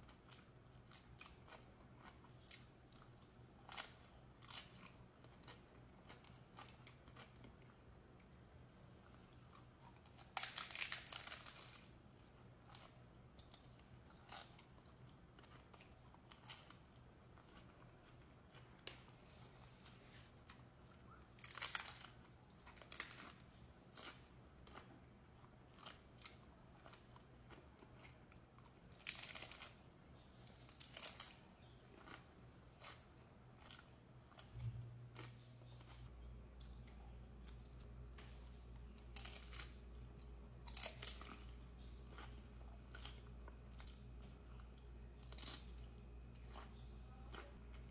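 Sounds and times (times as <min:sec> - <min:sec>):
chewing: 0:00.0 - 0:47.9
crunching taco shells: 0:00.0 - 0:47.9
low steady hum: 0:00.0 - 0:47.9.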